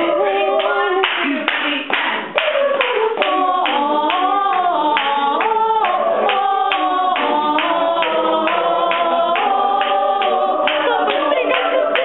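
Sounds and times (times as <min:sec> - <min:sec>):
choir singing a cappella: 0:00.0 - 0:12.0.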